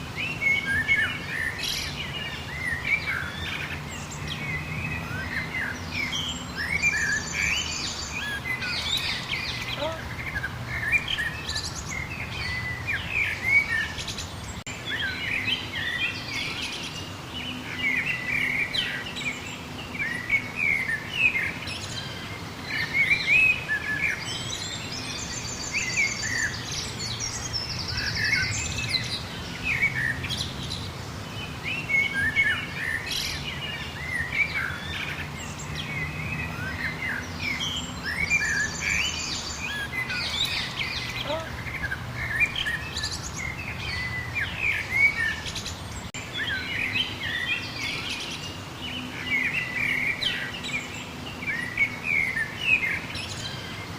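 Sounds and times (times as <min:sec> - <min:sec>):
birds chirping and whistling: 0:00.0 - 0:53.9.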